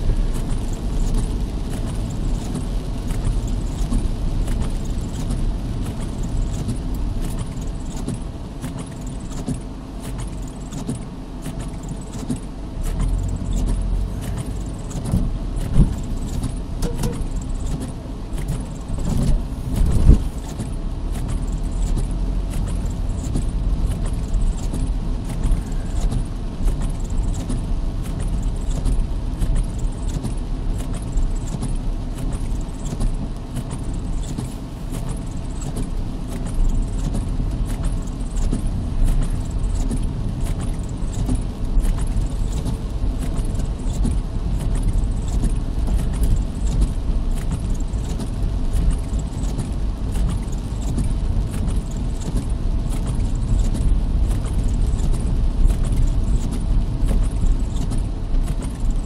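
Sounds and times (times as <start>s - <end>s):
car driving on wet road: 0.0s - 59.0s
rain on car roof: 0.0s - 59.0s.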